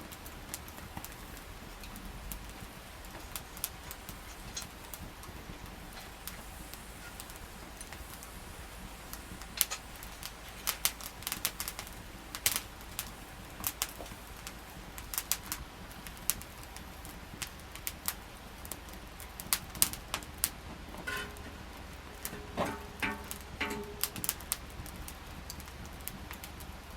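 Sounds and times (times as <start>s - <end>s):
wood fire crackling and popping: 0.0s - 26.9s.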